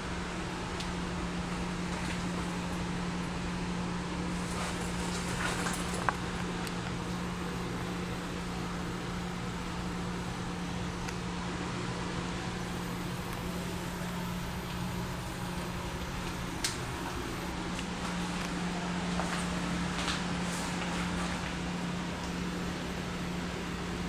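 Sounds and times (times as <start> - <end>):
kitchen machinery hum: 0.0 - 24.0.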